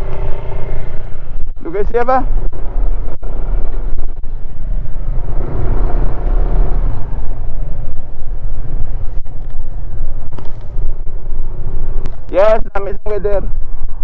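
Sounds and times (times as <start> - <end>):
vehicle engine rumbling: 0.0 - 14.0
wind noise on microphone: 0.0 - 14.0.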